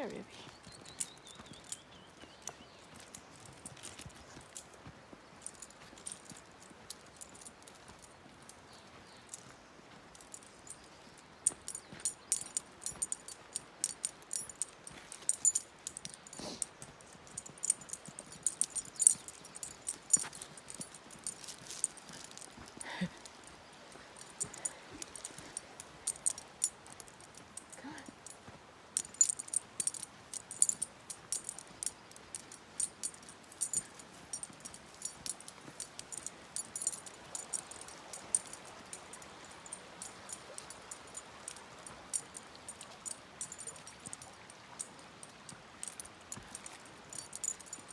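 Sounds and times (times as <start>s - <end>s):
dog tags jingling: 0.0s - 47.9s.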